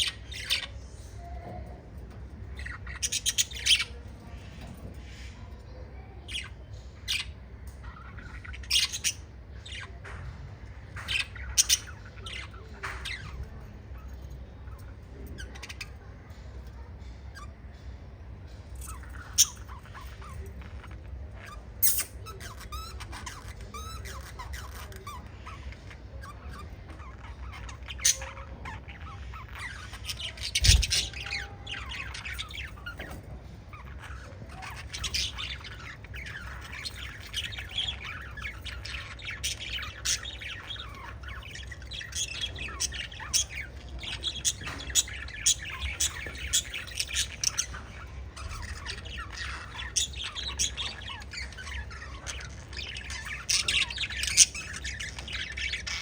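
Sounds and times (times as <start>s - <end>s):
budgies chirping and squawking: 0.0s - 56.0s.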